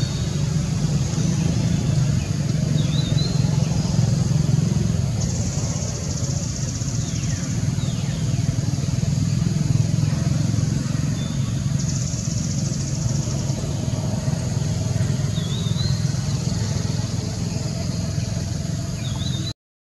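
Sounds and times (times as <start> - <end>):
low engine rumble: 0.0 - 19.6.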